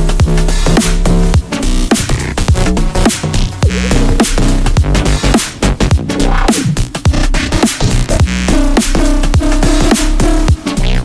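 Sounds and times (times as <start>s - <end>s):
drum and bass music: 0.0s - 11.0s.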